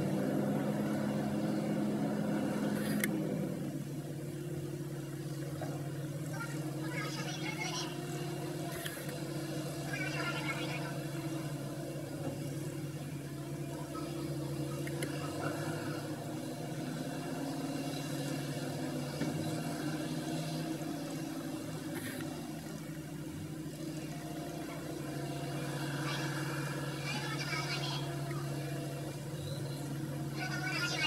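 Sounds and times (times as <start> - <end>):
wheel loader engines droning: 0.0 - 31.0.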